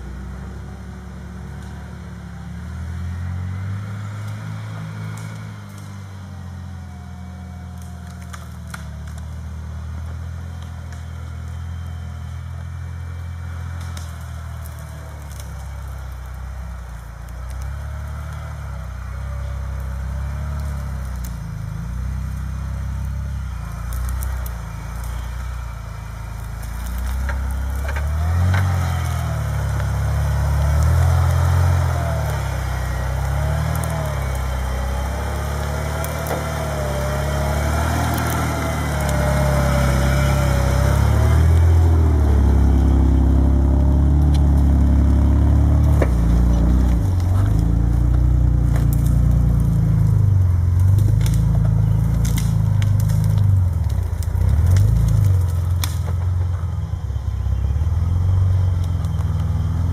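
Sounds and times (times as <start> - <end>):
branches cracking under tyres: 0.0 - 59.9
truck engine revving: 0.0 - 59.9.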